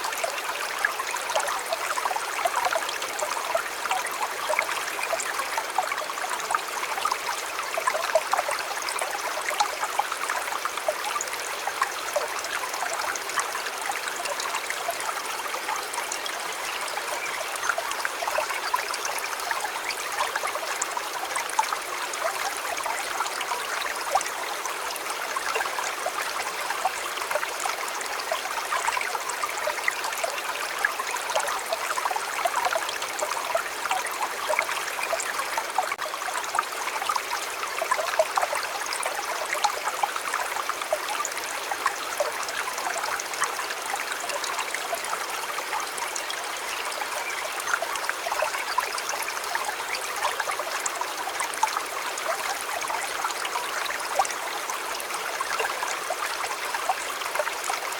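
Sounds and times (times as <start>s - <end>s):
stream flowing over stones: 0.0s - 57.9s.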